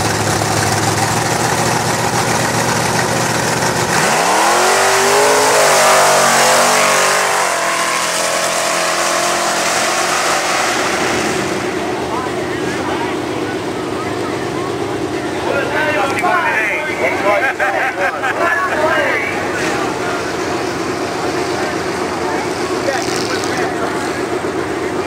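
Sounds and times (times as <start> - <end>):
truck engine idling and revving: 0.0 - 25.0.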